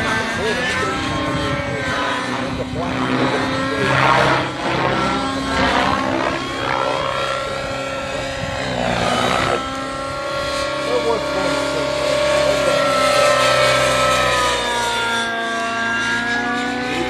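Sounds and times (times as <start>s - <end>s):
model helicopter engine whine: 0.0s - 17.0s
rotor blades whooshing: 0.0s - 17.0s.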